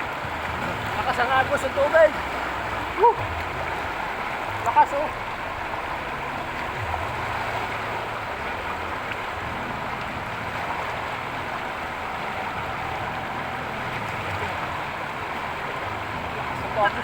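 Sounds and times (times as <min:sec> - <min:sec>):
low steady rumble: 0:00.0 - 0:17.0
river water rushing: 0:00.0 - 0:17.0.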